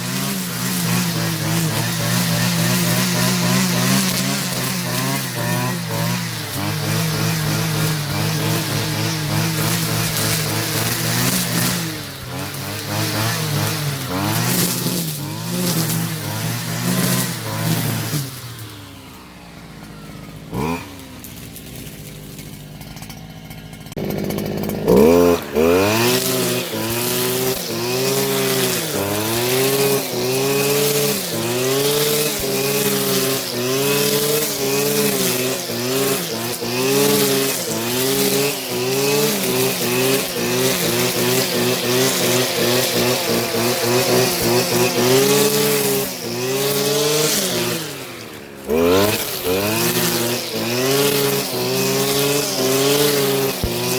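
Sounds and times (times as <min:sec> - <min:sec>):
string trimmer engine revving: 0:00.0 - 0:53.9.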